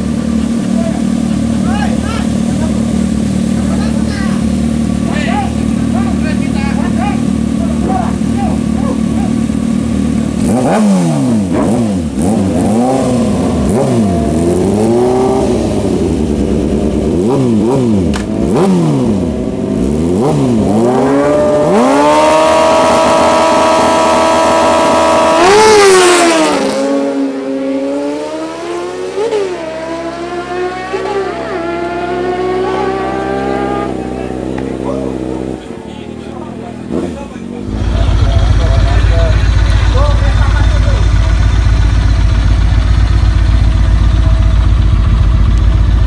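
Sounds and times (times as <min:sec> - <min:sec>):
motorcycle engines revving: 0:00.0 - 0:46.0.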